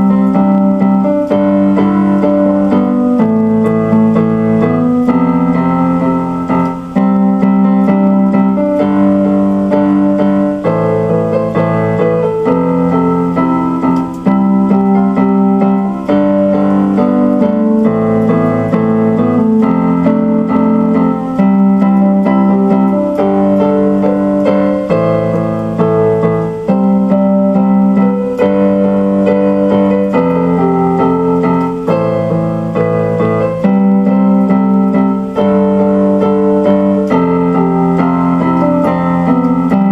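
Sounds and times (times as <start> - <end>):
piano chords over bass line: 0.0 - 39.9.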